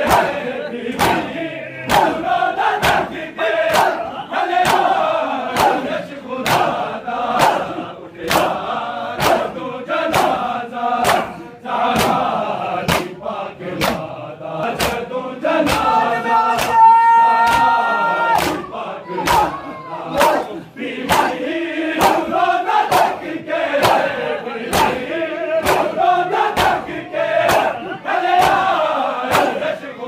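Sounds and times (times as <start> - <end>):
men striking their chests: 0.0 - 29.8
crowd of men chanting: 0.0 - 30.0.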